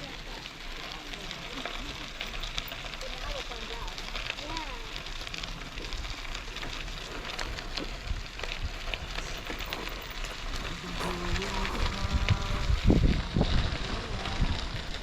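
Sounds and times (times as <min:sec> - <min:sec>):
bicycle tyres on rough path: 0:00.0 - 0:15.0
small rattles and clicks: 0:00.0 - 0:15.0.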